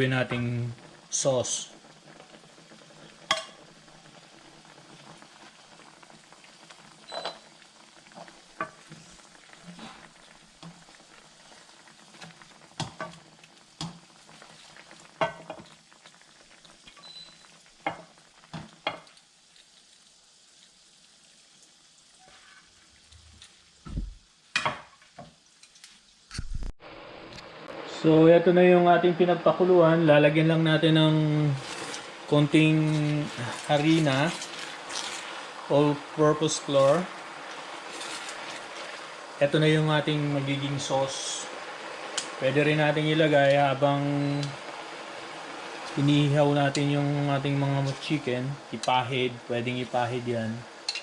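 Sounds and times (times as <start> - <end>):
sauce bubbling in a pan: 0.0 - 26.3, 29.9 - 51.0.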